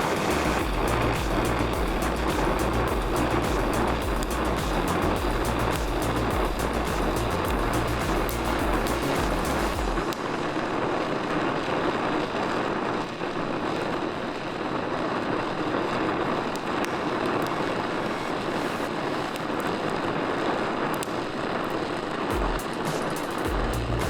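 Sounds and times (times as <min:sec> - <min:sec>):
light crackles: 0:00.0 - 0:24.0
welding torch flame hissing: 0:00.0 - 0:24.0.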